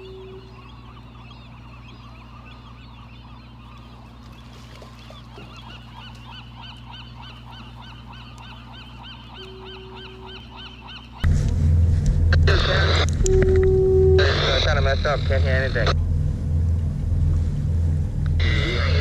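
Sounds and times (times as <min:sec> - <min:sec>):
seabirds honking: 0:00.0 - 0:11.4, 0:12.4 - 0:19.0.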